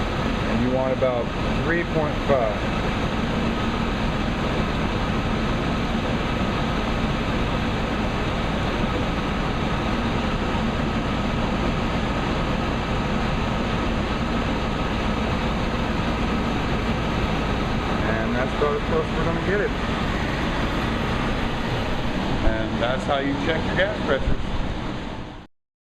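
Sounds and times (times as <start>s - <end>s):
gas furnace running: 0.0s - 25.5s.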